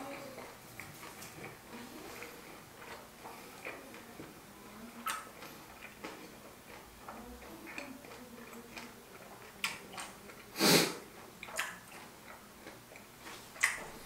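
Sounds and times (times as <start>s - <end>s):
mouth chewing food: 0.0s - 14.0s.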